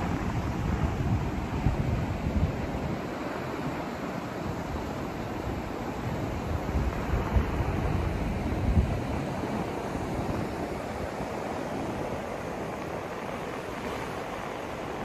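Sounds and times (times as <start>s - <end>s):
steady white noise: 0.0s - 15.0s.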